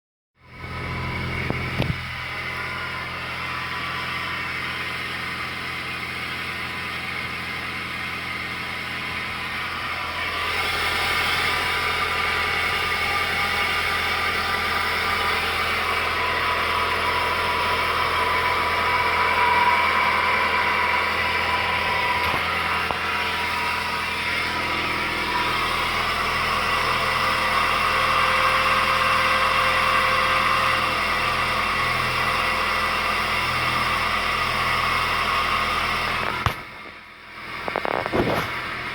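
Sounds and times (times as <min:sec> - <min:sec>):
car engine running: 0:00.4 - 0:38.9.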